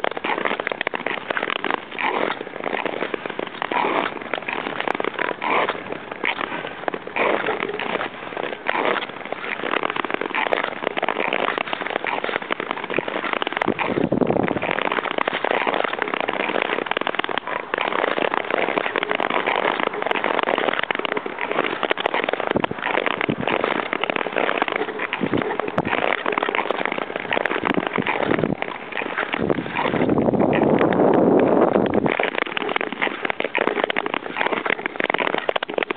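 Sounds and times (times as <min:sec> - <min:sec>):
skate blades scraping on ice: 0:00.0 - 0:35.9.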